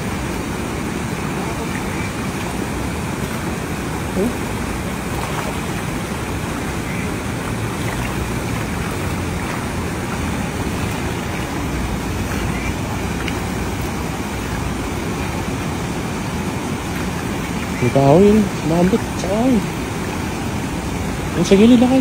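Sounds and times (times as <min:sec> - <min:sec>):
fish splashing in shallow water: 0:00.0 - 0:22.0.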